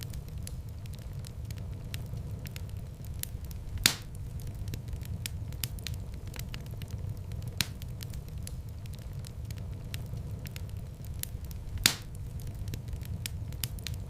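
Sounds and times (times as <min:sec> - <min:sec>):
fire popping: 0:00.0 - 0:14.0
wood fire crackling: 0:00.0 - 0:14.0.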